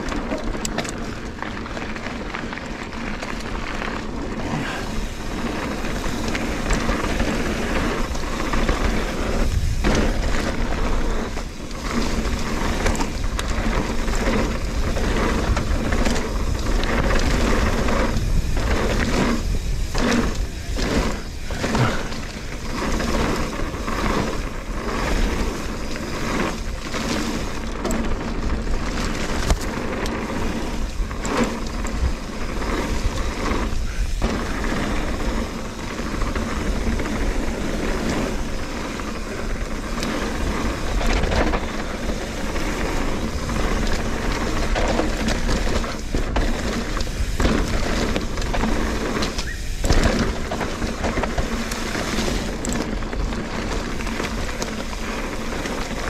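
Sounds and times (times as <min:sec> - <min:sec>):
bicycle chain and frame rattling: 0:00.0 - 0:56.0
bicycle tyre noise on dirt: 0:00.0 - 0:56.0
wind rumble: 0:00.0 - 0:56.0.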